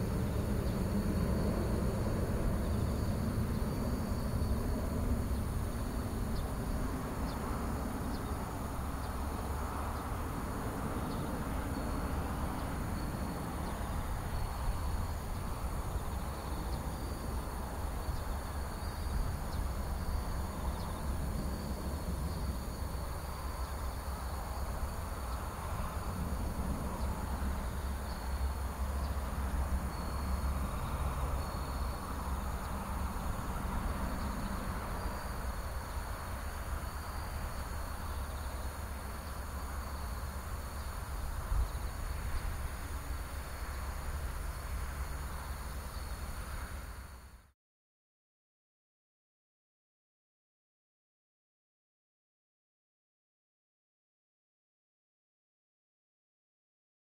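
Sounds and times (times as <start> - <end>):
distant jet engine rumble: 0.0 - 47.4
high insect trill: 0.0 - 47.5.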